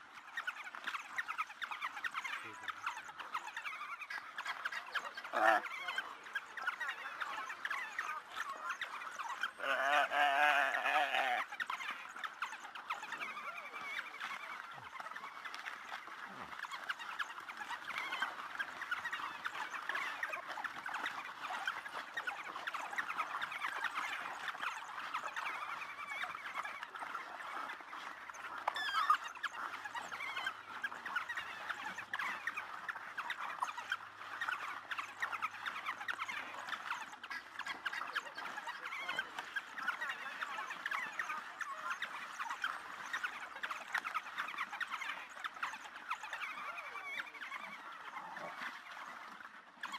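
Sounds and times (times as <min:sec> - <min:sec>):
wild dogs twittering calls: 0:00.3 - 0:49.9.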